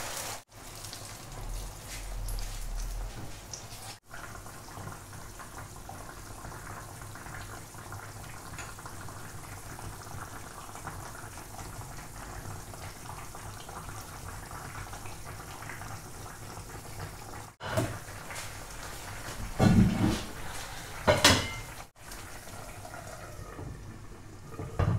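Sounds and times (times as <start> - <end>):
broth simmering and bubbling: 0.0 - 24.9.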